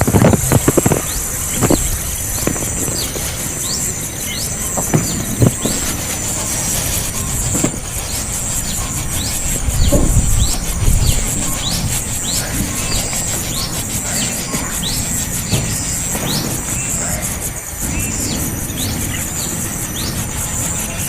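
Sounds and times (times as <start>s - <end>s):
steady high buzz: 0.0s - 21.0s
young bird chirping: 0.0s - 21.0s.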